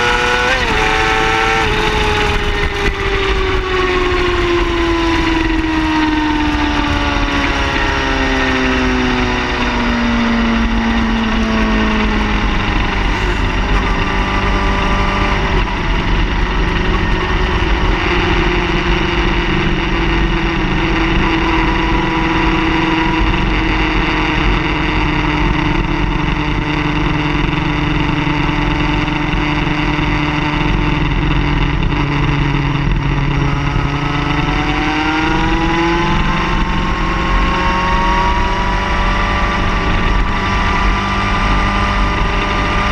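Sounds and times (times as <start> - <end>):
car engine running: 0.0 - 42.9
road rumble: 0.0 - 42.9.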